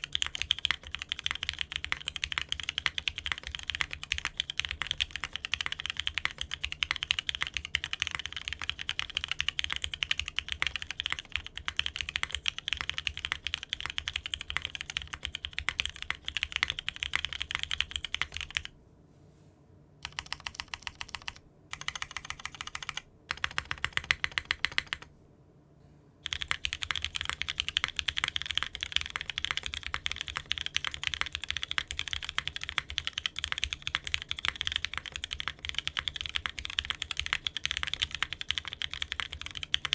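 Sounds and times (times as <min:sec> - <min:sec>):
mechanical keyboard typing: 0:00.0 - 0:18.7, 0:20.0 - 0:25.1, 0:26.2 - 0:39.9.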